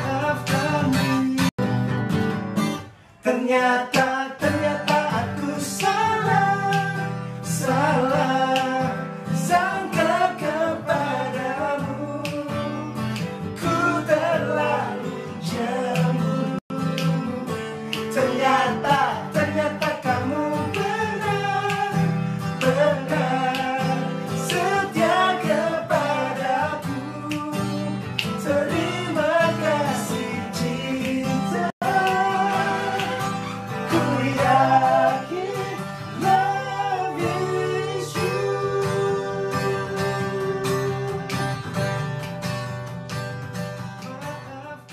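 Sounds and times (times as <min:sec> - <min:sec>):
two men singing: 0:00.0 - 0:01.6, 0:03.2 - 0:41.5
strummed acoustic guitar: 0:00.0 - 0:44.9.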